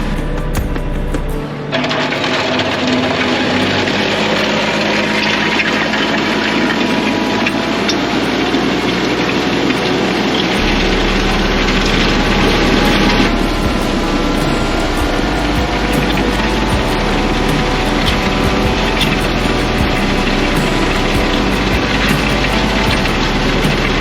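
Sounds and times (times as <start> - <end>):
tractor diesel engine: 0.0 - 24.0.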